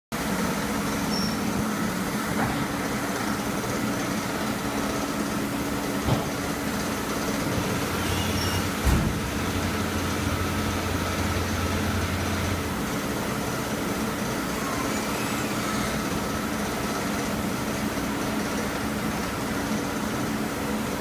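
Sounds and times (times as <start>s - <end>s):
deeper machine hum: 0.2s - 21.0s
machinery humming: 0.2s - 21.0s.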